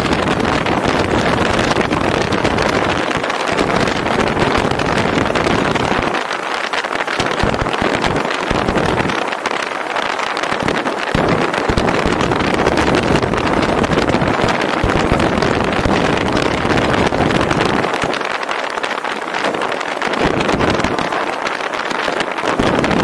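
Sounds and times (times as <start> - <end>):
wind and road noise: 0.0 - 23.0
wind buffeting microphone: 0.0 - 23.0.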